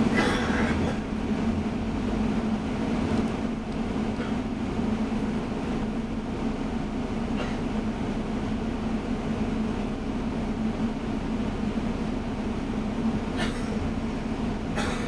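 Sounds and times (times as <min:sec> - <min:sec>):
bus engine drone: 0:00.0 - 0:15.0
constant low hum: 0:00.0 - 0:15.0.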